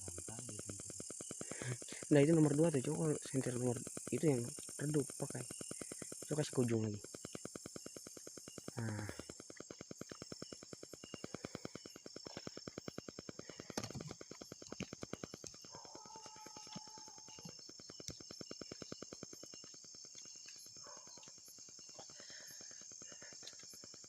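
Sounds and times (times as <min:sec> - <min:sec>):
high insect trill: 0:00.0 - 0:24.0.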